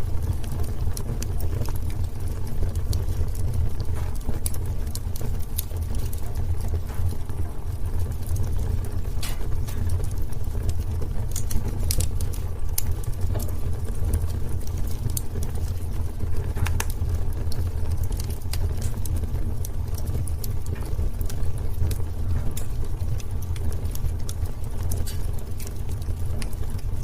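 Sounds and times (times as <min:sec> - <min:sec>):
fire crackling and popping: 0:00.0 - 0:27.0
fire rumbling: 0:00.0 - 0:27.0.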